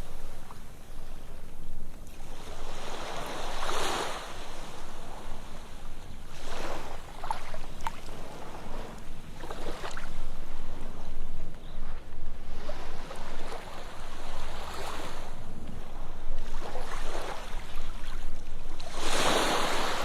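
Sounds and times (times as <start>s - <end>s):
low rumble of the sea: 0.0s - 20.0s
waves breaking on beach: 0.0s - 20.0s.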